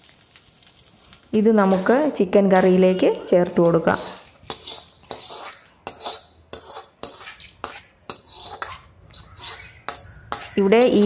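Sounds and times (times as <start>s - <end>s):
metal utensils scraping a pan: 1.6s - 11.0s.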